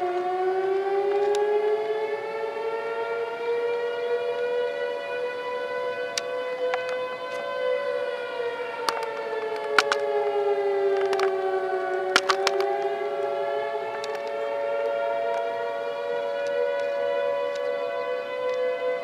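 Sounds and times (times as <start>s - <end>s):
tornado warning sirens: 0.0s - 19.0s.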